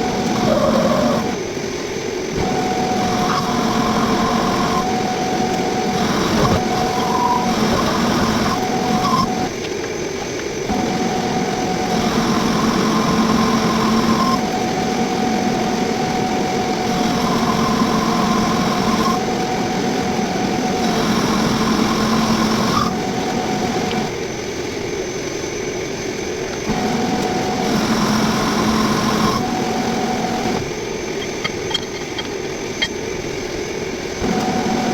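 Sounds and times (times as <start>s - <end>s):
metal lathe cutting: 0.0s - 1.6s, 2.2s - 9.6s, 10.7s - 24.2s, 26.7s - 33.1s
whining tones: 0.0s - 9.6s, 10.7s - 24.3s, 26.7s - 34.9s.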